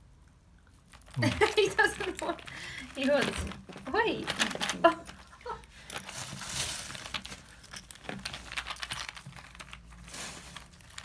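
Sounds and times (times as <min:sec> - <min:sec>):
mesh netting rustling: 0:00.9 - 0:11.0.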